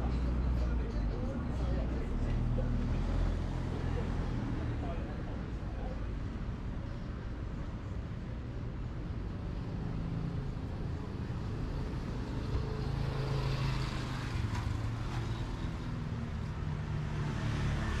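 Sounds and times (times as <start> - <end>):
street noise: 0.0 - 18.0.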